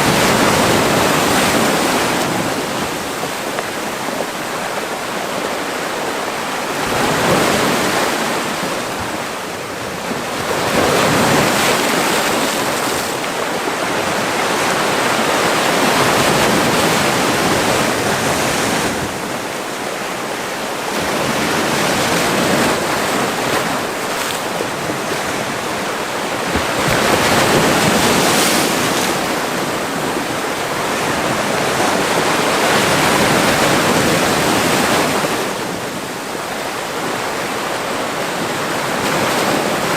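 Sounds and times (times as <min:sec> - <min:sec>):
sea waves breaking ashore: 0:00.0 - 0:39.9.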